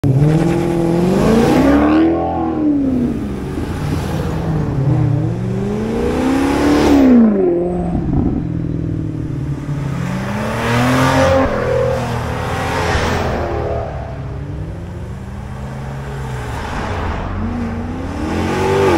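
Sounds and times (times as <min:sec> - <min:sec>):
car engine accelerating hard: 0:00.0 - 0:18.9.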